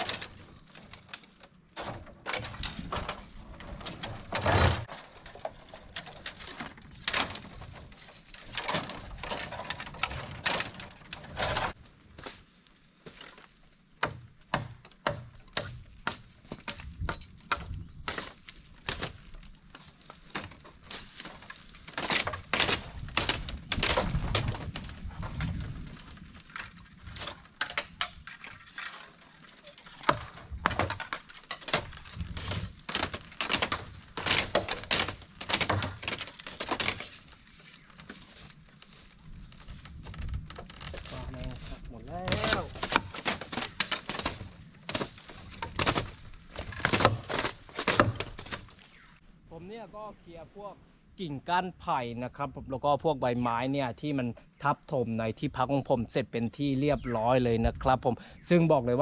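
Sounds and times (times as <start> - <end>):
leaves rustling: 0.0 - 14.5, 15.6 - 49.5
bamboo branches cracking and snapping: 0.0 - 49.1.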